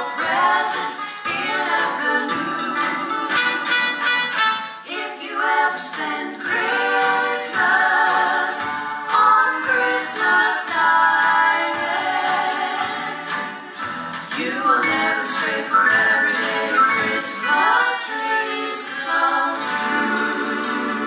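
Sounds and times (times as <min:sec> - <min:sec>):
women singing in harmony: 0:00.0 - 0:03.8, 0:04.8 - 0:21.0.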